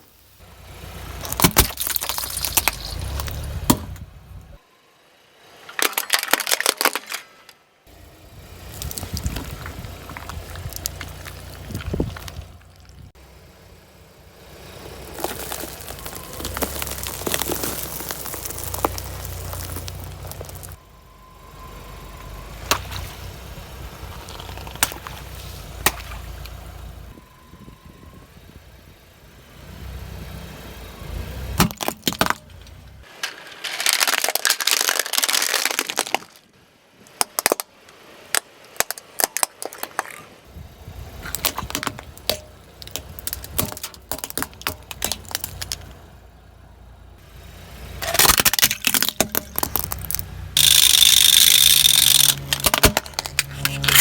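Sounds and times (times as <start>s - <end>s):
objects crunching under car tyre: 0.8s - 4.6s, 5.6s - 13.2s, 14.4s - 20.8s, 22.1s - 26.9s, 31.4s - 46.4s, 47.2s - 54.0s.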